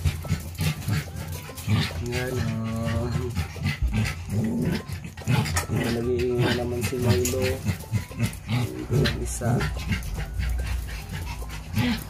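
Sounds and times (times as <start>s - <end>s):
puppies whimpering: 0.0s - 12.0s.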